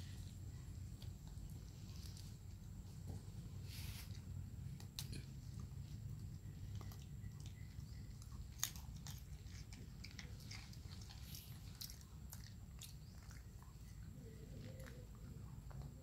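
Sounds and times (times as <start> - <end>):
monkey chewing fruit: 0.0 - 16.0.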